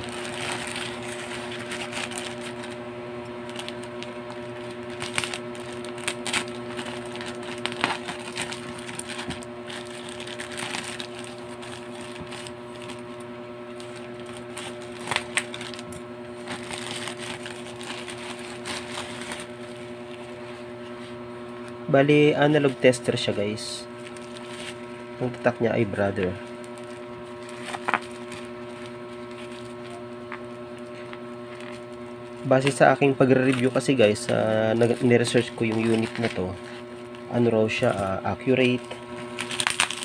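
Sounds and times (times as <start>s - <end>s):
plastic pouch crinkling: 0.0s - 2.8s, 3.4s - 13.1s, 13.7s - 20.4s, 22.5s - 40.0s
electrical hum: 0.0s - 40.0s.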